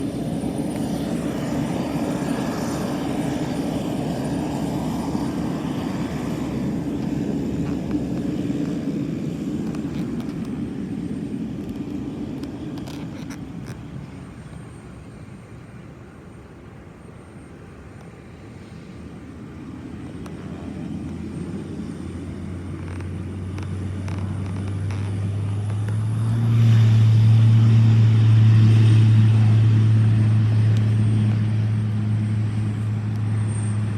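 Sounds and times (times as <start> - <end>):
turboprop engine and propeller: 0.0 - 33.9.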